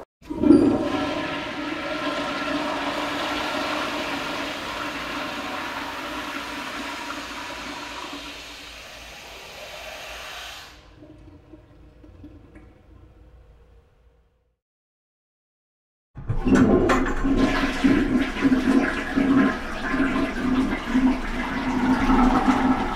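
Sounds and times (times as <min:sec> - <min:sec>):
toilet flushing: 0:00.2 - 0:13.7, 0:16.2 - 0:22.9.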